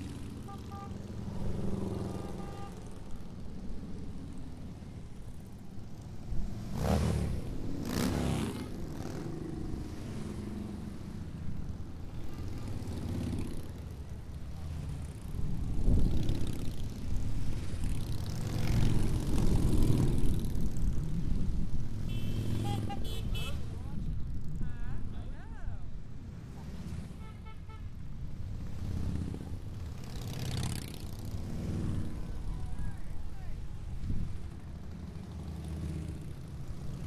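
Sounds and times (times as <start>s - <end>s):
motorcycles rumbling past: 0.0s - 24.8s, 28.0s - 37.0s.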